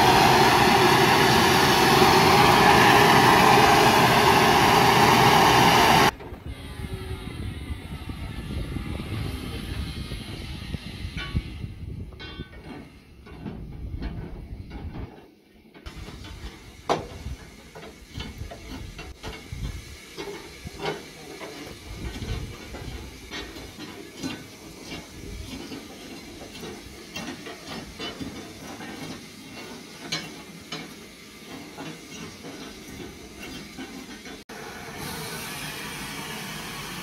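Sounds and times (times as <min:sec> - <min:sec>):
steam locomotive hissing steam: 0:00.0 - 0:13.3, 0:15.7 - 0:37.0.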